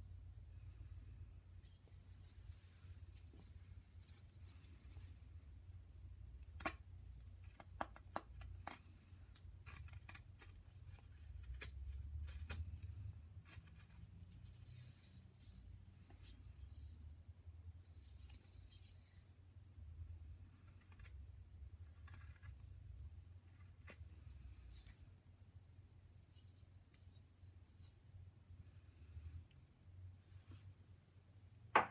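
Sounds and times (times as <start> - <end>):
low steady hum: 0.0 - 31.9.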